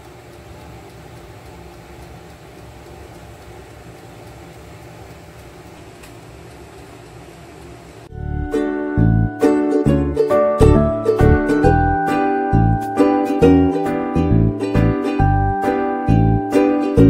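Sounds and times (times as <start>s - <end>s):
electric oven humming: 0.0s - 17.0s.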